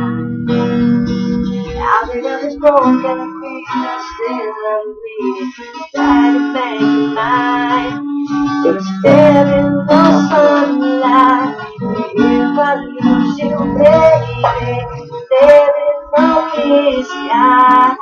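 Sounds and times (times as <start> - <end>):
acoustic guitar strumming: 0.0 - 18.0
man singing: 1.8 - 18.0.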